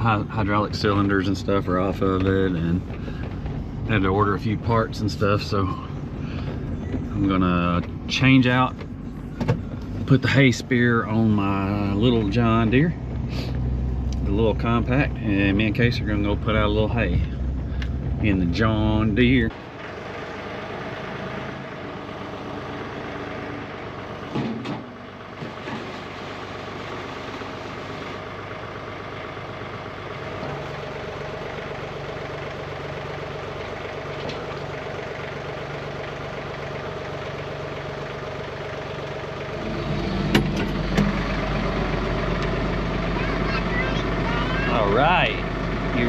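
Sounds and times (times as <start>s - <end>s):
tractor diesel engine idling: 0.0s - 46.0s.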